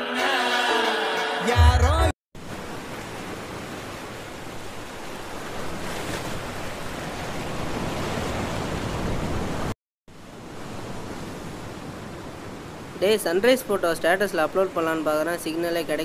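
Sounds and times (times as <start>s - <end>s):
sea surf washing on beach: 2.4s - 16.0s.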